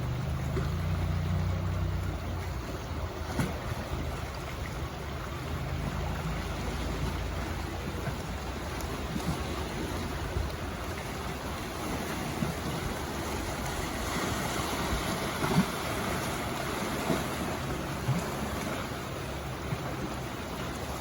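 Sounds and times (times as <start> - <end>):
seawater sloshing and lapping: 0.0 - 21.0.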